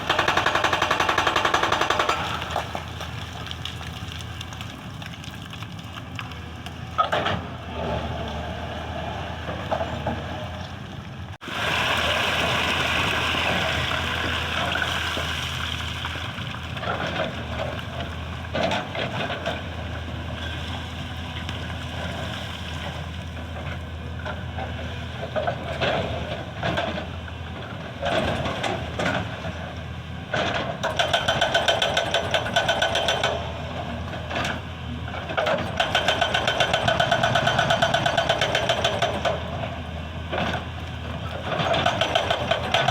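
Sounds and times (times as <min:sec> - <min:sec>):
excavator diesel engine running: 0:00.0 - 0:22.2, 0:22.9 - 0:42.9.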